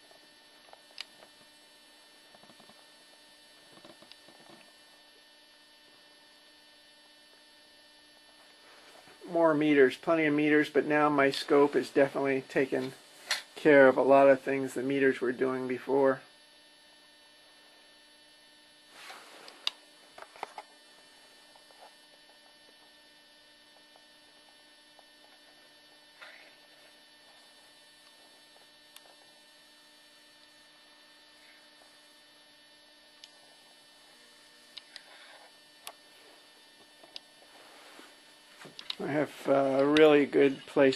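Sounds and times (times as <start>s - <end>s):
faint electrical hum: 0.0s - 40.9s.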